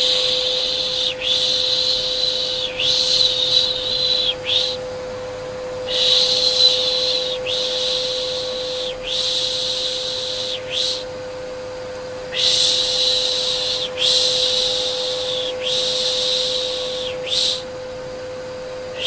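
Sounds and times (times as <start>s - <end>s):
person shushing: 0.0s - 4.8s, 5.9s - 11.1s, 12.3s - 17.7s
vacuum cleaner humming: 0.0s - 19.0s.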